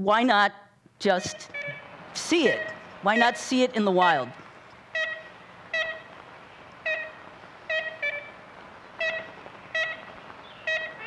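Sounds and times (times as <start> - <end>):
woodpecker nasal calls: 1.1 - 3.5, 4.1 - 11.0.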